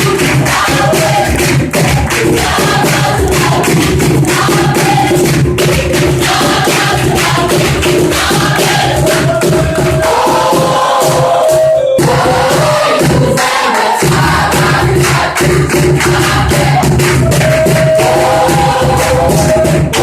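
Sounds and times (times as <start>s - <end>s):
choir singing: 0.0s - 5.4s, 6.0s - 20.0s
steady drum beat: 0.0s - 20.0s.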